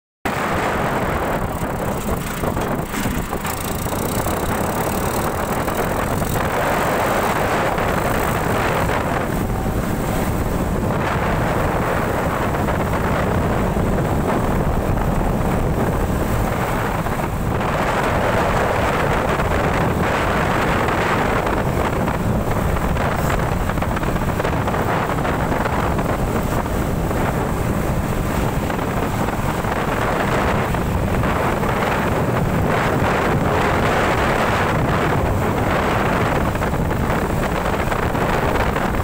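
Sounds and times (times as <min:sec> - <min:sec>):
wind buffeting microphone: 0:00.3 - 0:39.0
tractor diesel engine running: 0:00.4 - 0:38.7.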